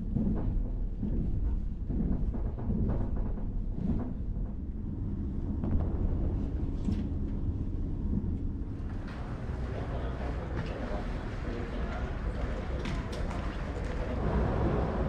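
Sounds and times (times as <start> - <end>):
moving train rumble: 0.0 - 15.0.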